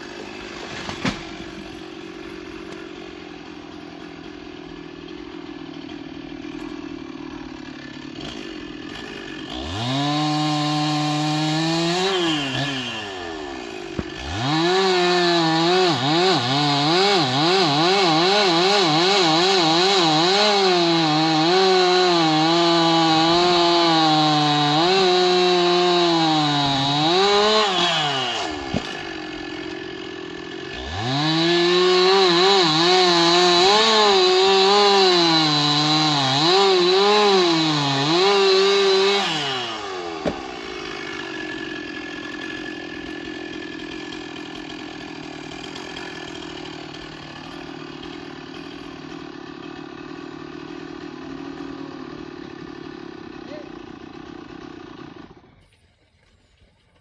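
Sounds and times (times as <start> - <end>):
chainsaw idling and revving: 0.0 - 55.6
chainsaw cutting wood: 0.0 - 55.7.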